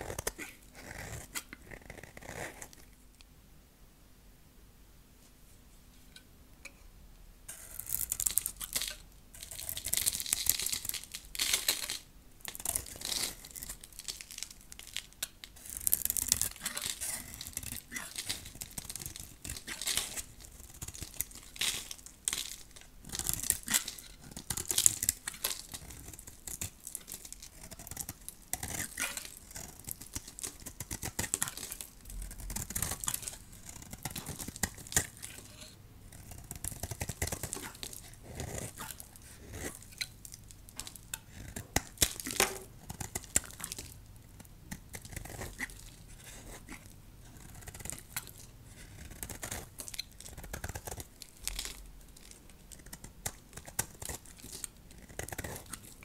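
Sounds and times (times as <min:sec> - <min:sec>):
knife carving hard soap: 0:00.0 - 0:02.9, 0:07.5 - 0:56.0.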